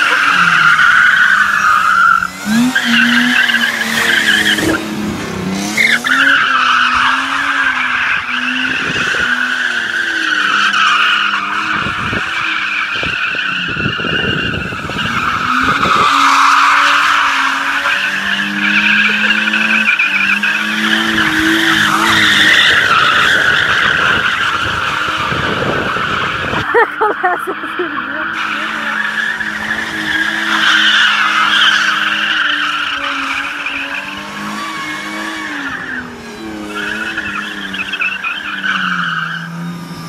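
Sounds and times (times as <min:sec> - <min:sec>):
tyre squeal: 0:00.0 - 0:04.8, 0:05.7 - 0:40.0
car engine revving: 0:00.0 - 0:26.8, 0:27.4 - 0:40.0.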